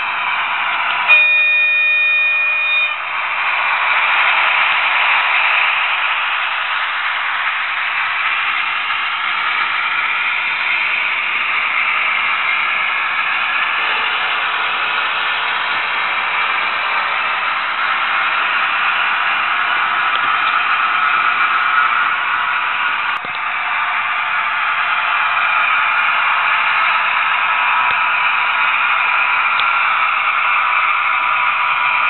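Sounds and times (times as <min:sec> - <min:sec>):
model train wheels on rails: 0:00.0 - 0:32.0.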